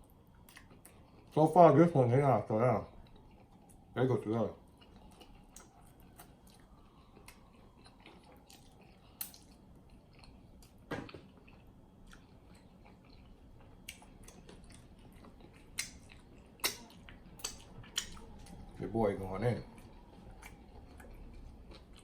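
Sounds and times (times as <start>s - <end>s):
person chewing sticky food: 0.0s - 22.0s.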